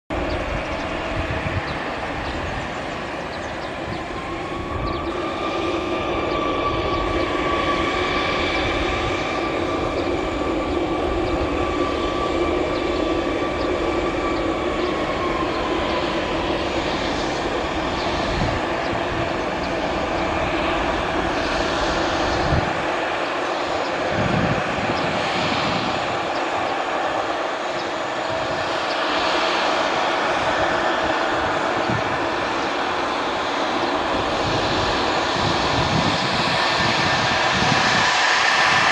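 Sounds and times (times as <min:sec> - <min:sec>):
jet engines whining: 0:00.1 - 0:38.9
higher whining tone: 0:00.2 - 0:38.9.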